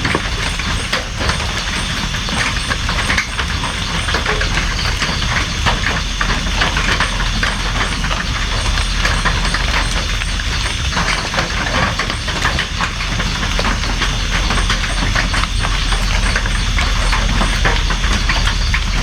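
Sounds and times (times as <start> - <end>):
raindrops tapping on a surface: 0.0 - 19.0.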